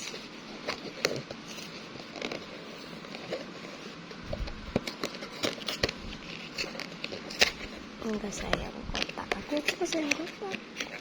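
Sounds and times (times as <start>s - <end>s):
packaging clicks and crackles: 0.0s - 11.0s.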